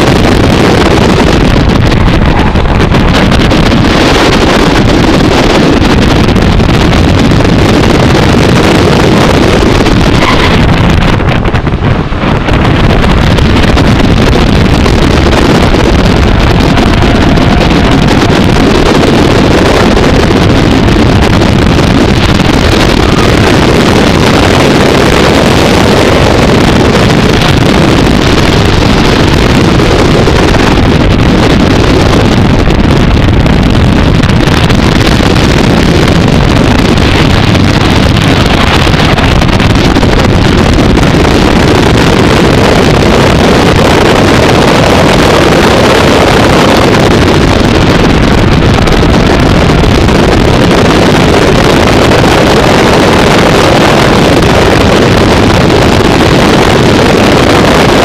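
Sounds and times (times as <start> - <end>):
car engine running hard: 0.0 - 58.0
wind buffeting microphone: 0.0 - 58.0.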